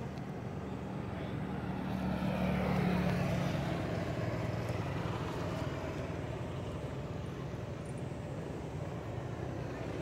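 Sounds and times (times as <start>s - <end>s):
outdoor noise: 0.0s - 10.0s.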